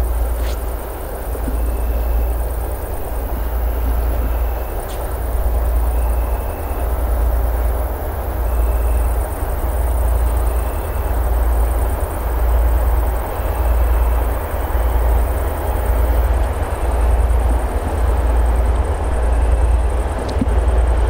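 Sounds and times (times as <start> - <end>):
diesel locomotive engines rumbling: 0.0 - 21.0.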